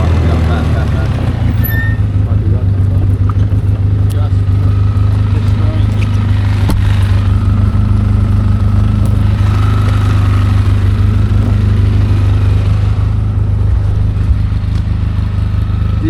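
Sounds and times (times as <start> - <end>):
atv engine droning: 0.0 - 16.0.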